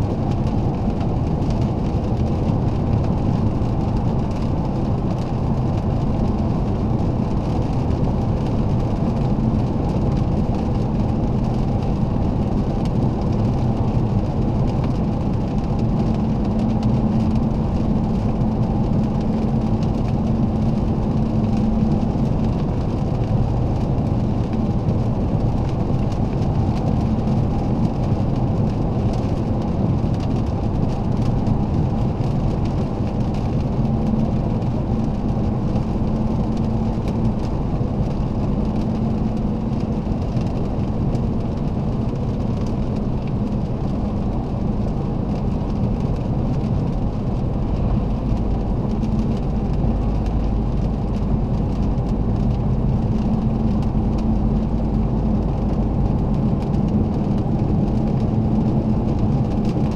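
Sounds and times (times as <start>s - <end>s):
diesel engine running: 0.0s - 59.9s
tyre and road noise: 0.0s - 59.9s.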